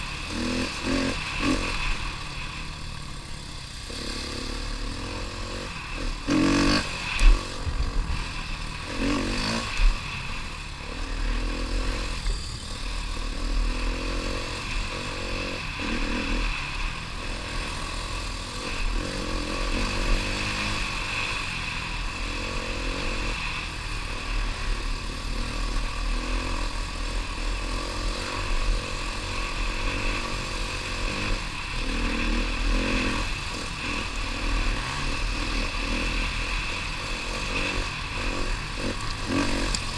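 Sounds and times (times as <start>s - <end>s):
trail bike engine running: 0.0s - 39.9s.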